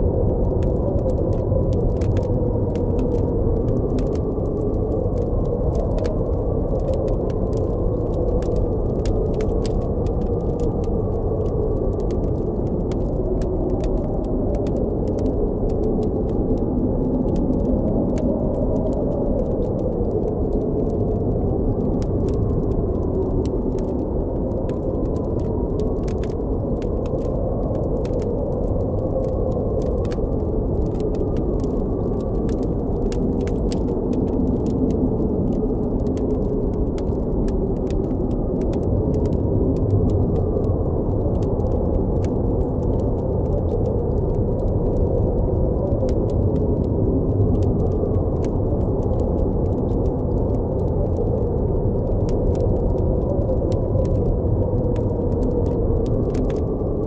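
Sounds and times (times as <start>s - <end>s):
blizzard wind howling: 0.0s - 57.0s
campfire crackling: 0.0s - 57.0s.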